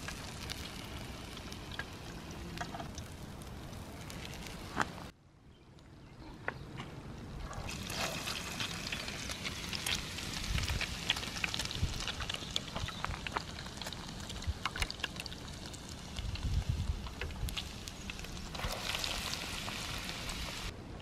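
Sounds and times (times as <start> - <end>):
eggs sizzling in a pan: 0.0 - 4.7, 7.7 - 20.7.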